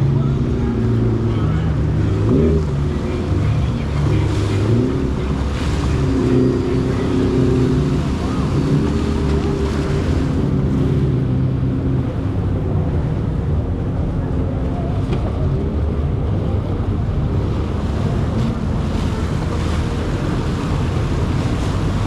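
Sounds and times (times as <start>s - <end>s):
jet ski engine running: 0.0s - 22.0s
water rushing: 0.0s - 22.0s.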